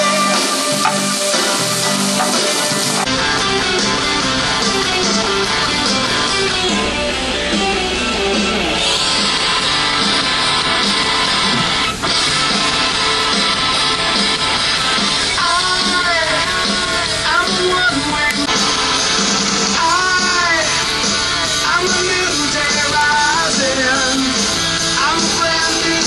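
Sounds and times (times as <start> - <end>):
guitar pop-rock music: 0.0 - 26.0.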